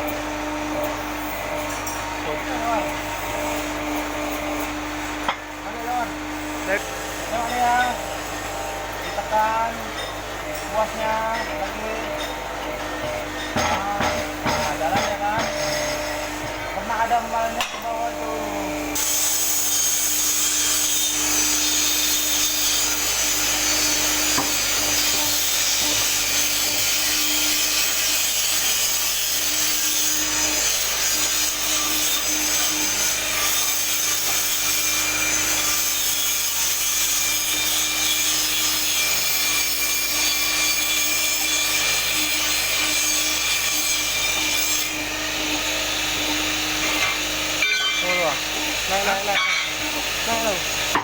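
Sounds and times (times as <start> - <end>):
hydraulic press hissing: 6.1 - 51.0.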